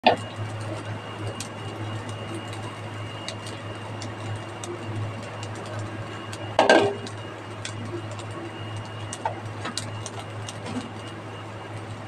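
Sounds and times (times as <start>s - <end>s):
food crackling in a wok: 0.0s - 12.0s.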